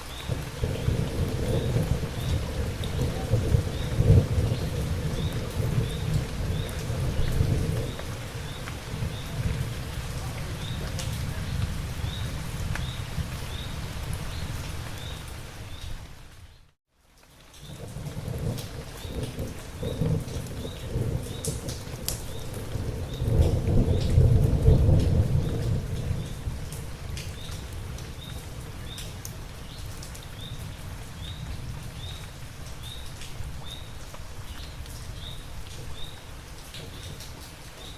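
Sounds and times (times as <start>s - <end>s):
low thunder rumbling: 0.0s - 15.2s, 17.7s - 34.0s
raindrops ticking on a surface: 0.0s - 37.9s
steady rain: 0.0s - 37.9s.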